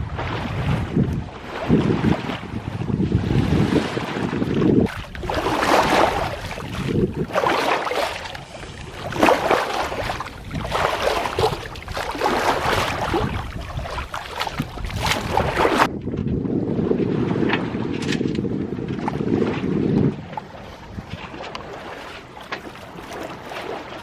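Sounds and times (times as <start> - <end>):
water rushing along a hull: 0.0 - 24.0.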